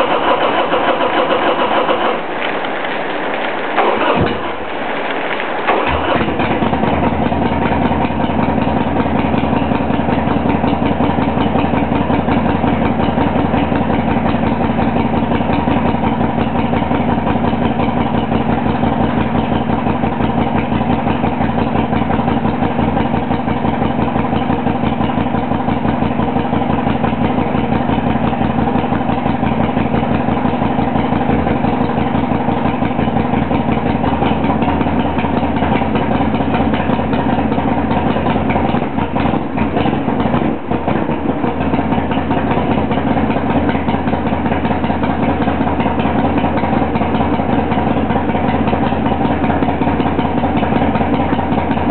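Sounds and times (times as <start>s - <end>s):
motorcycle engine idling: 0.0s - 2.5s, 5.7s - 51.9s.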